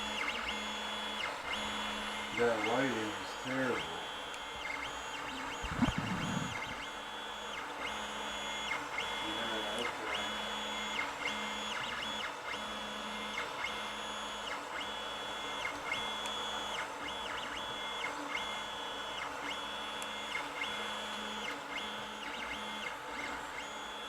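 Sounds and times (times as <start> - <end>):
printer stepper motors whining: 0.0 - 24.0.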